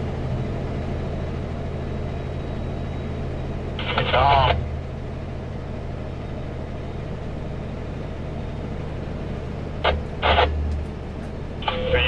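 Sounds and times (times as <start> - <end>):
road noise inside cab: 0.0 - 12.0
truck diesel engine droning: 0.0 - 12.0.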